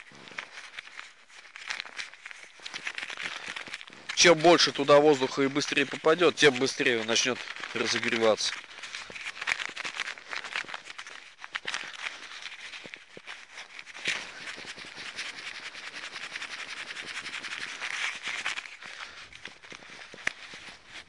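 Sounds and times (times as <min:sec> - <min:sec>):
heating pad rustling and crackling: 0:00.0 - 0:21.0.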